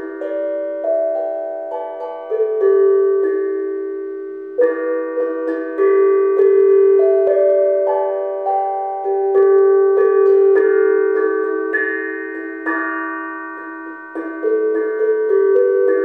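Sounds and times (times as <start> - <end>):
steel drum melody: 0.0 - 16.0.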